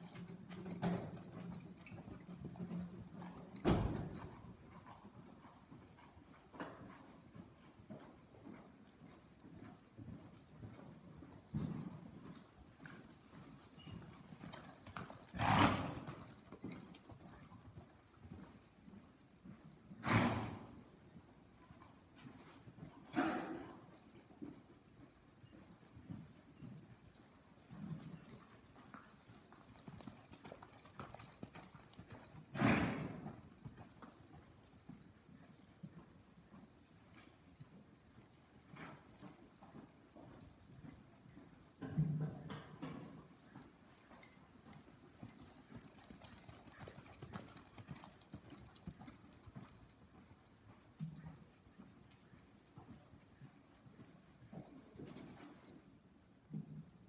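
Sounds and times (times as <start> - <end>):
horse hoofbeats on dirt: 0.0 - 57.0.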